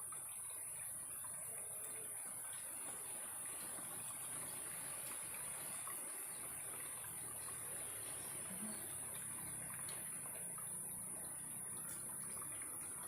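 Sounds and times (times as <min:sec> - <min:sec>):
small stream trickling: 0:00.0 - 0:13.0.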